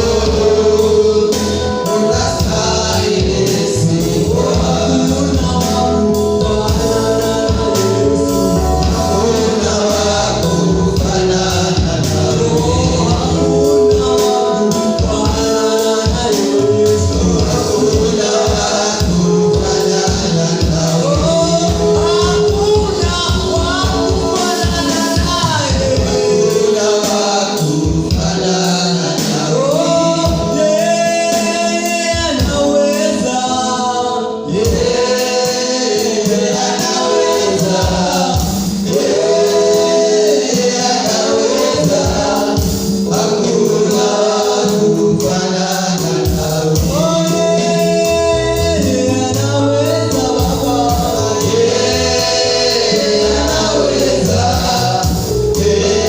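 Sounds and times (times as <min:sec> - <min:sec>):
choir singing: 0:00.0 - 0:31.5, 0:32.6 - 0:56.0
band playing a steady beat: 0:00.0 - 0:56.0.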